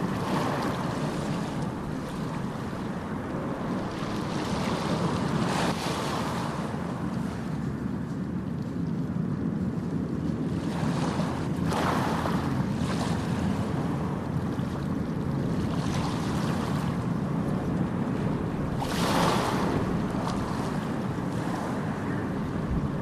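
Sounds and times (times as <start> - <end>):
ocean waves washing in: 0.0 - 8.1, 10.1 - 23.0.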